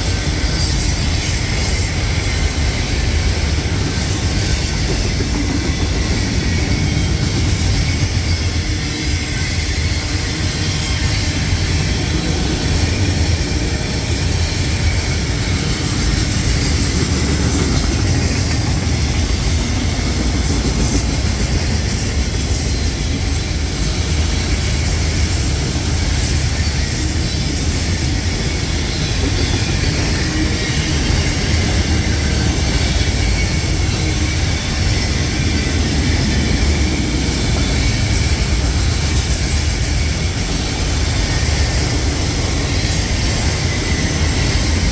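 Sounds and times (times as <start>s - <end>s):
high wheel squeal: 0.0s - 44.9s
train wheels rumbling on rail: 0.0s - 44.9s.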